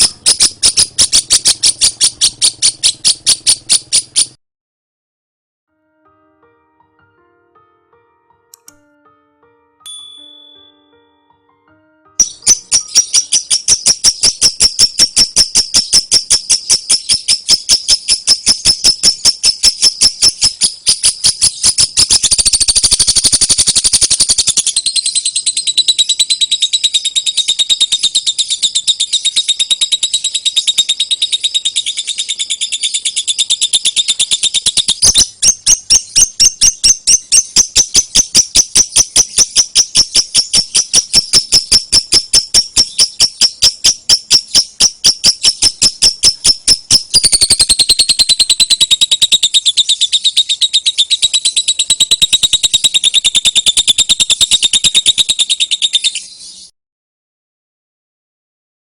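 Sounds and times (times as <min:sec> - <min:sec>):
lovebird chirping: 0:00.0 - 0:04.4, 0:12.2 - 0:56.7.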